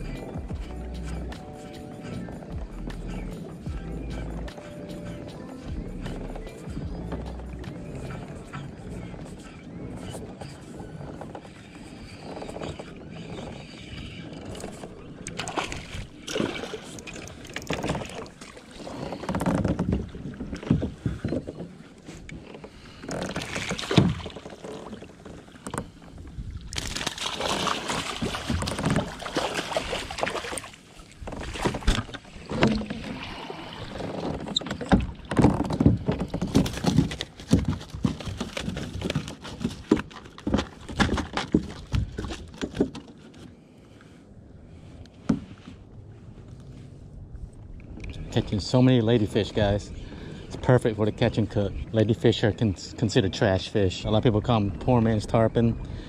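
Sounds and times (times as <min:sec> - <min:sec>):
water splashing around kayak: 0:00.0 - 0:56.0.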